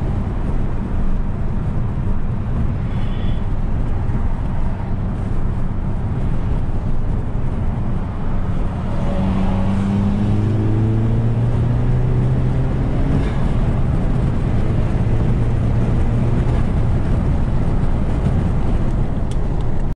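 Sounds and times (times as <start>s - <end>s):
car engine drone: 0.0s - 19.9s
road noise: 0.0s - 19.9s.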